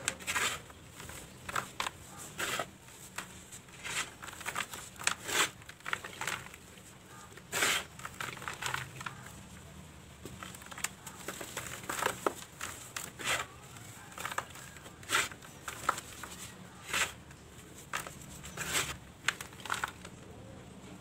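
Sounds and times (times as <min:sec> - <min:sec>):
powder sifting: 0:00.0 - 0:09.4, 0:10.4 - 0:20.1
cement balls crunching by hand: 0:00.0 - 0:20.5.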